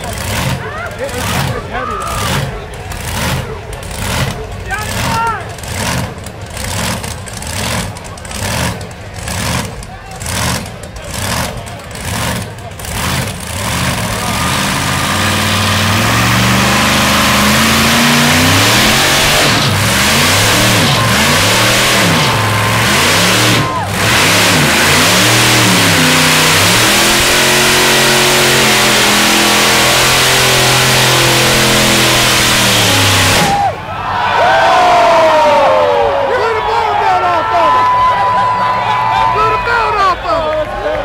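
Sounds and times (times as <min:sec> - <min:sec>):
tires spinning: 0:00.0 - 0:41.0
truck engines revving hard: 0:00.0 - 0:41.0.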